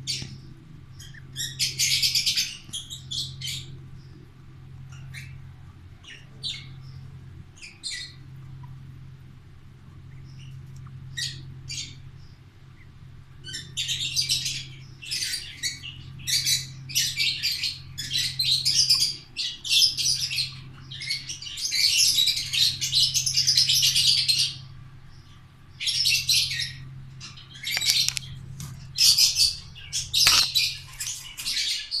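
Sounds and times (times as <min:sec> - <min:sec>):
steady low hum: 0:00.0 - 0:31.8
birds chirping: 0:00.0 - 0:32.0.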